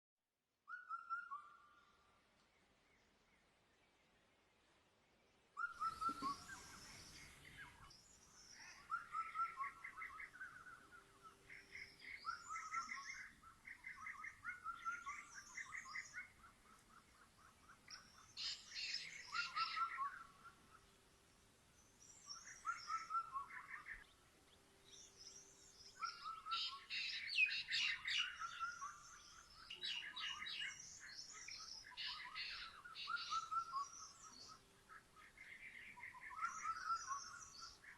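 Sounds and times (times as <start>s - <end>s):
birds singing and chirping: 5.6s - 21.0s, 21.8s - 37.9s.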